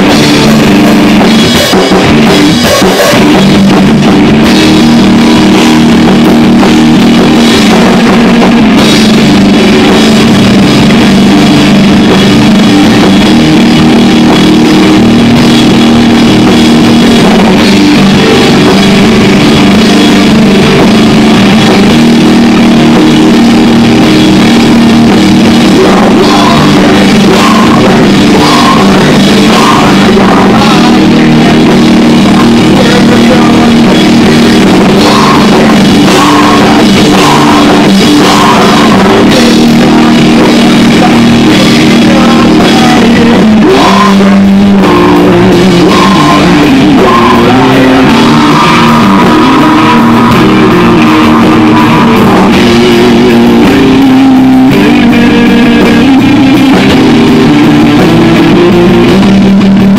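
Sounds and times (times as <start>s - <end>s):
live heavy rock band: 0.0s - 59.9s.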